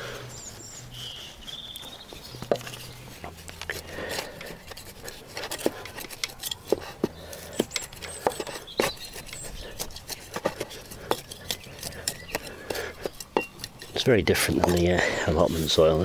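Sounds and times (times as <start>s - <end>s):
soil clicks and scrapes: 0.0s - 16.0s.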